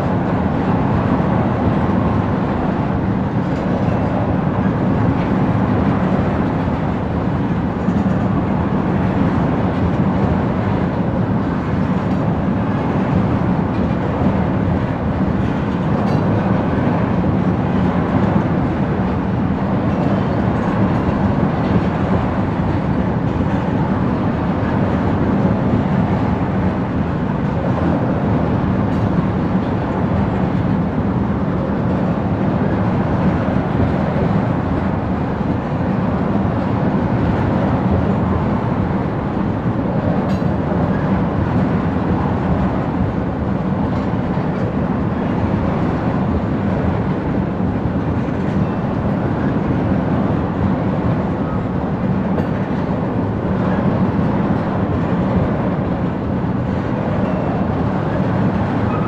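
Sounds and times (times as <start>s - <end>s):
tank cars rumbling on rails: 0.0s - 59.0s.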